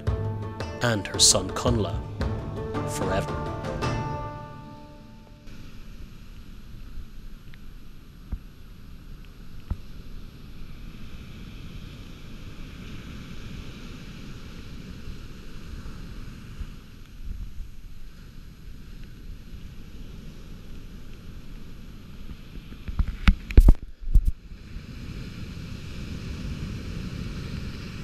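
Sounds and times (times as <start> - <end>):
surf washing up a beach: 5.5 - 28.0.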